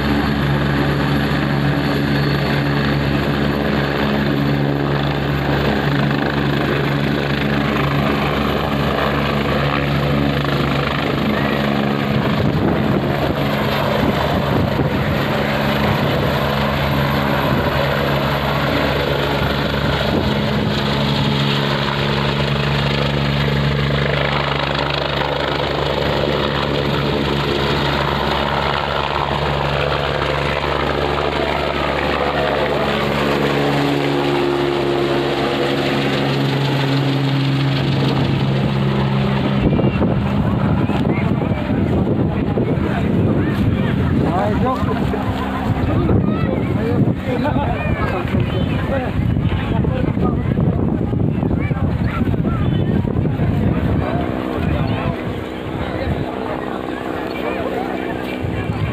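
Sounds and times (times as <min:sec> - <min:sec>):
faint high turbine whine: 0:00.0 - 0:58.9
helicopter rotor beat: 0:00.0 - 0:58.9.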